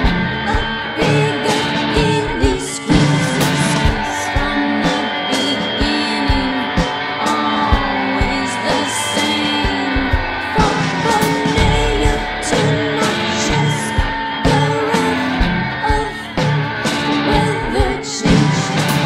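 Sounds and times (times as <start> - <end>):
rock music with guitars and drums: 0.0 - 19.0.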